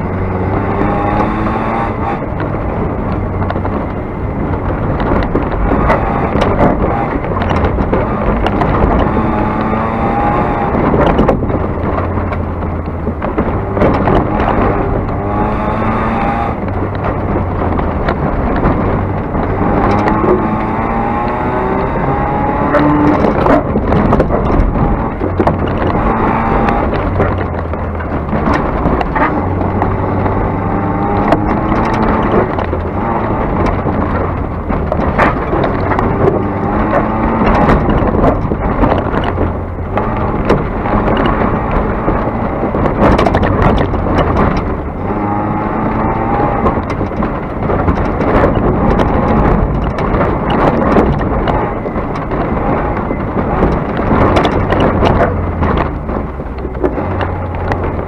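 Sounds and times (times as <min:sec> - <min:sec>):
car engine revving and shifting: 0:00.0 - 0:58.0
gravel clattering against car: 0:00.0 - 0:58.0.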